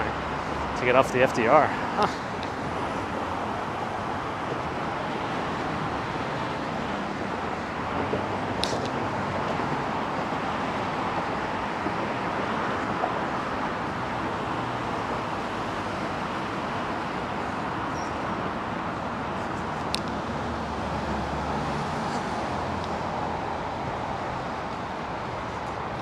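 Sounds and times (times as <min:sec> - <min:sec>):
highway traffic: 0:00.0 - 0:26.0.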